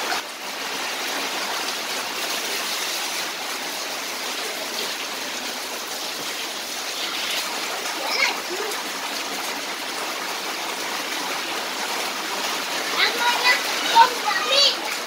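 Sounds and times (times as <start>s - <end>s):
heavy rain on concrete: 0.0s - 15.0s
water splashing from roof spout: 0.0s - 15.0s.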